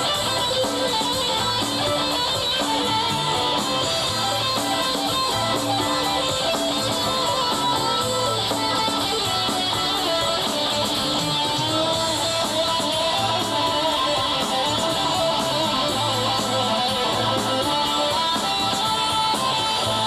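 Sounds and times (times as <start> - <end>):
electric guitar sliding melody: 0.0 - 20.0
live rock band playing: 0.0 - 20.0.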